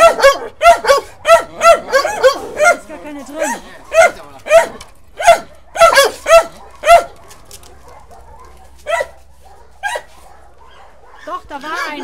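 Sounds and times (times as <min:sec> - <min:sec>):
dog barking in high yelps: 0:00.0 - 0:12.0.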